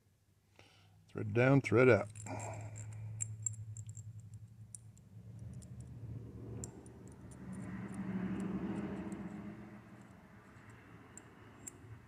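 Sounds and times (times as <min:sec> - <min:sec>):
low steady hum: 0:00.0 - 0:12.0
small clicks and rubbing of screw: 0:02.0 - 0:12.0.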